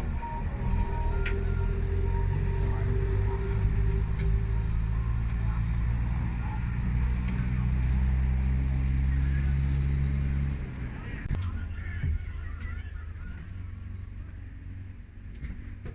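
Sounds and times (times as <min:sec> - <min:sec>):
vehicle engine idling: 0:00.0 - 0:15.9.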